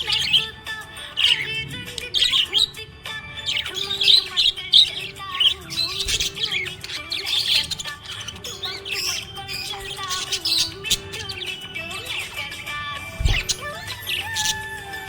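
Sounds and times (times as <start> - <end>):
background music: 0.0 - 15.0
budgerigars chirping and squawking: 0.0 - 15.0.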